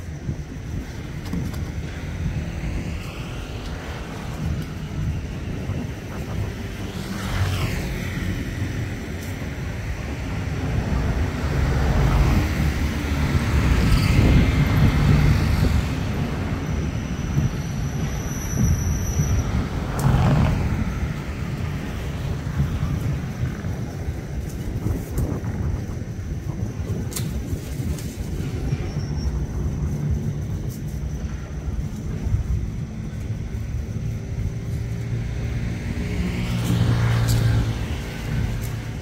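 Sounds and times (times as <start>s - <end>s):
passing motor traffic rumble: 0.0s - 39.0s.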